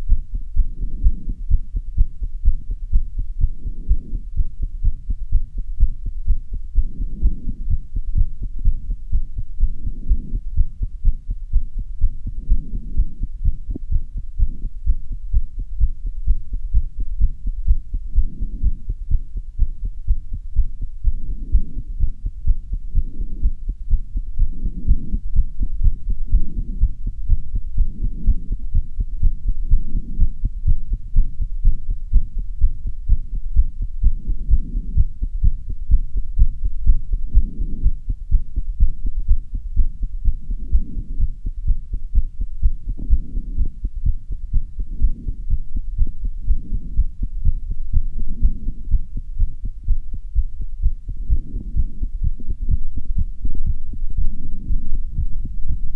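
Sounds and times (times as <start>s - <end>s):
fast heartbeat: 0.0s - 55.9s.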